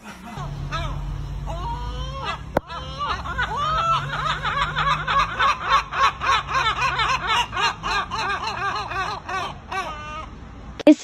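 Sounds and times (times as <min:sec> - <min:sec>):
gulls laughing calls: 0:00.0 - 0:10.6.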